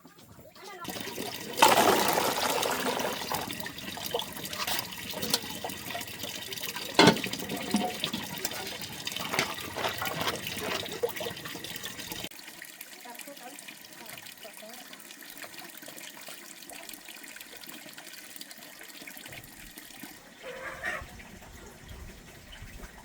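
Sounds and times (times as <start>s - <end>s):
water splashing and pouring: 0.2s - 20.4s.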